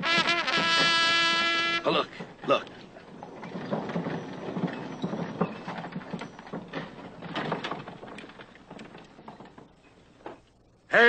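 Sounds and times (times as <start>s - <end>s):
horse hoofbeats: 0.0s - 10.5s.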